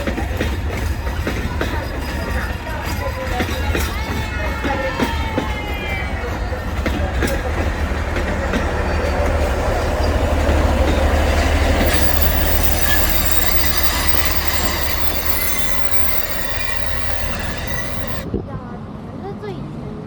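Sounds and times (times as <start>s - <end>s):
train rumbling: 0.0s - 18.3s
wheel squeal on rails: 1.0s - 18.2s.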